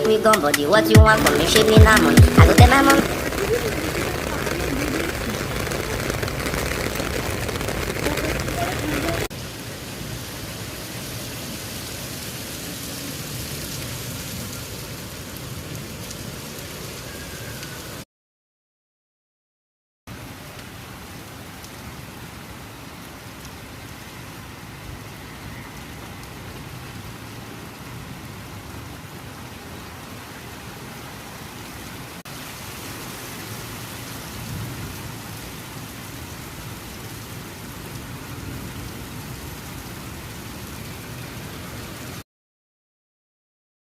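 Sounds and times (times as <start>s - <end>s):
steady rain falling: 0.0s - 18.0s, 20.1s - 42.2s.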